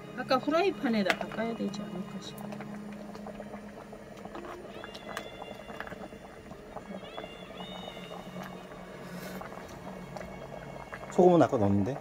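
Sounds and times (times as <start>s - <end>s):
broth boiling in a pot: 0.0s - 12.0s
ladle stirring: 1.1s - 11.2s.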